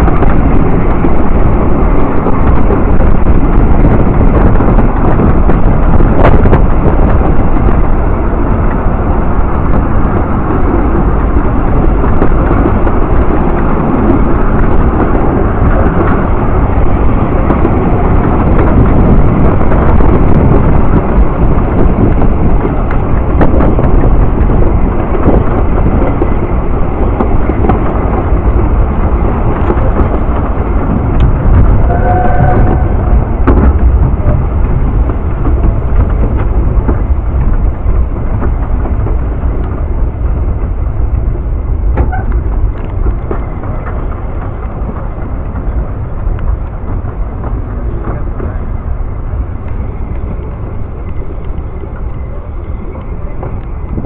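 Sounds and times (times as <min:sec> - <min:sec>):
train carriage and wheels rumbling: 0:00.0 - 0:54.0
wind noise on microphone: 0:00.0 - 0:54.0.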